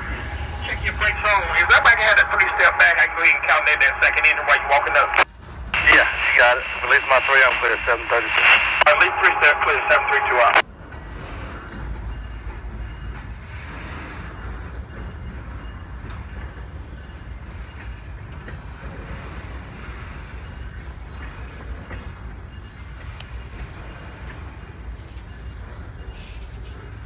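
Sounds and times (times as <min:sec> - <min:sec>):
steel wheels rumbling on rails: 0:00.0 - 0:27.0.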